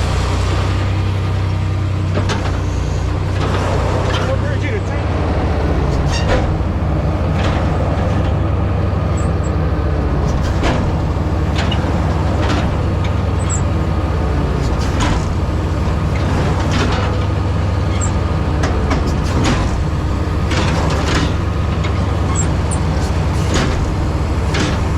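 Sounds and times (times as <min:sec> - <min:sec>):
diesel engine running steadily: 0:00.0 - 0:24.9.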